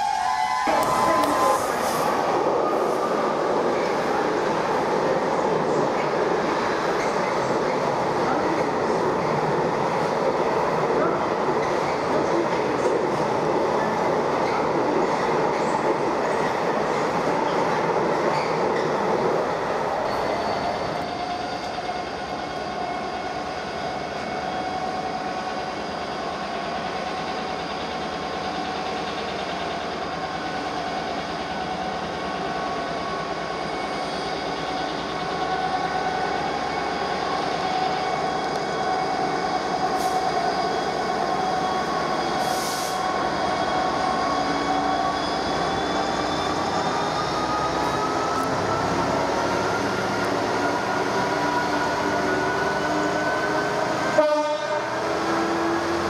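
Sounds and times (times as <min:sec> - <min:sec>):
train whining and rumbling: 0:00.0 - 0:56.0.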